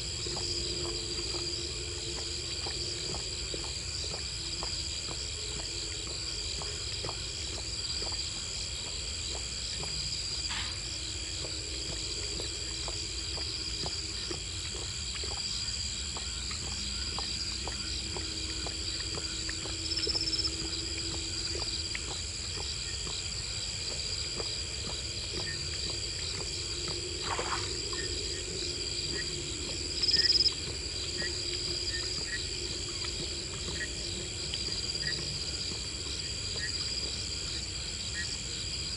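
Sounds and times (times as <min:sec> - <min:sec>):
lioness lapping water: 0:00.0 - 0:38.9
night insects trilling: 0:00.0 - 0:38.9.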